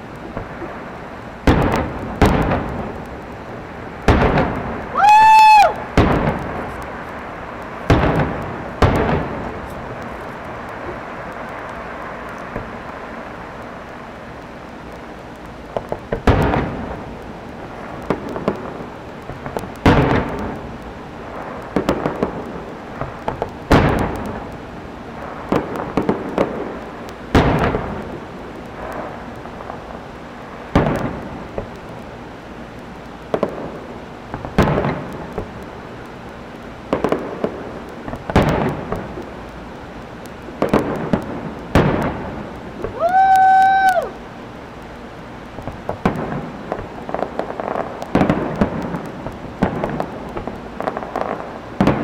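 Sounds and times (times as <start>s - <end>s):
fireworks bursting with echo: 0.0s - 52.0s.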